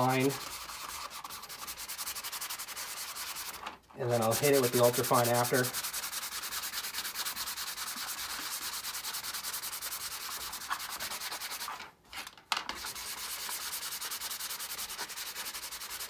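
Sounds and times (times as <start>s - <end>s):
sanding block rasping on plastic: 0.0s - 3.6s, 4.2s - 11.7s, 12.8s - 16.0s.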